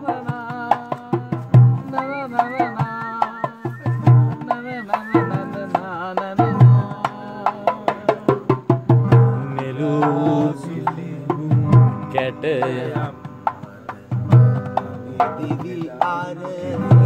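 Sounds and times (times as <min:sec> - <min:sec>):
acoustic guitar: 0:00.0 - 0:17.0
men singing together: 0:00.0 - 0:17.0
percussive beats and thumps: 0:00.0 - 0:17.0.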